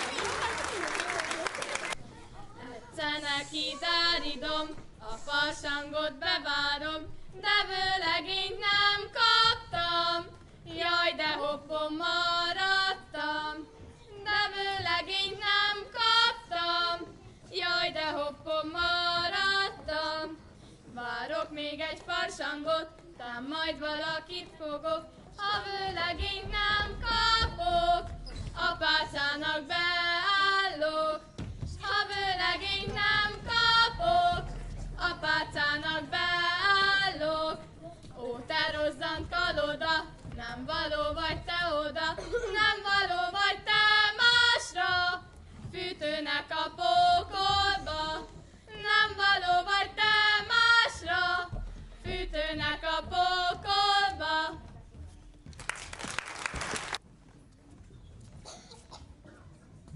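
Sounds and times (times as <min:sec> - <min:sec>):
girls singing unaccompanied: 0:02.3 - 0:55.4.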